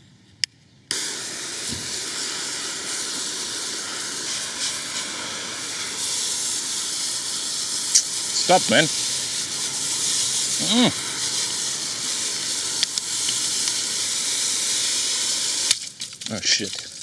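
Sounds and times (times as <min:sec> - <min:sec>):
water spraying onto muddy ground: 0:00.9 - 0:17.0.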